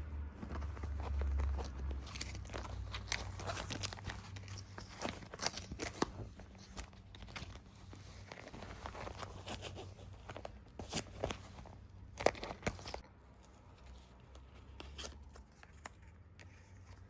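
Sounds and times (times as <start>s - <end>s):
objects being handled: 0.0s - 17.0s.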